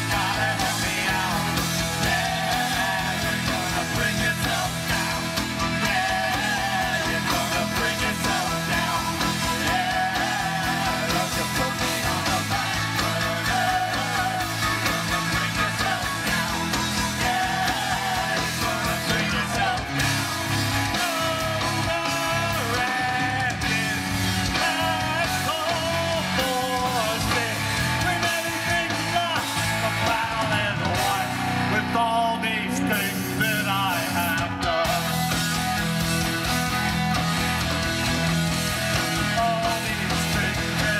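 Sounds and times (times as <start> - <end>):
bass guitar: 0.0 - 40.9
drums: 0.0 - 40.9
electric guitars: 0.0 - 40.9.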